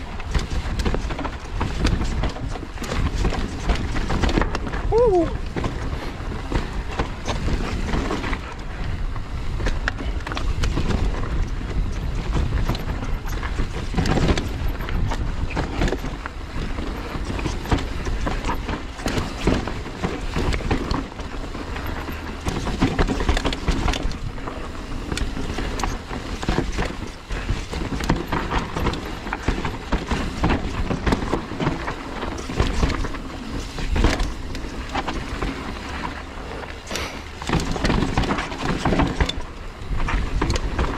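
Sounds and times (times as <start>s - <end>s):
bike rattling and knocking: 0.0s - 40.9s
bike tyres on dirt trail: 0.0s - 40.9s
wind on microphone: 0.0s - 40.9s.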